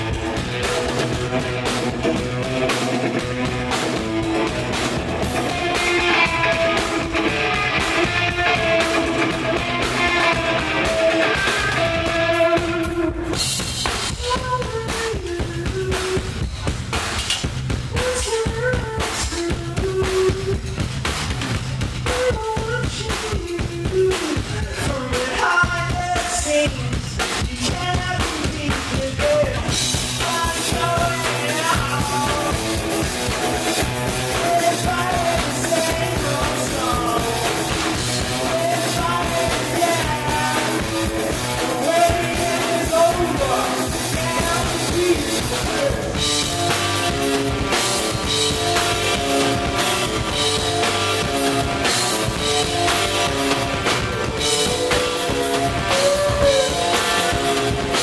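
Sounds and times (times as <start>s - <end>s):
bass guitar: 0.0s - 58.0s
drum kit: 0.0s - 58.0s
electric guitar: 0.0s - 58.0s
man singing: 5.3s - 13.4s, 14.0s - 16.5s, 17.9s - 20.8s, 22.0s - 58.0s.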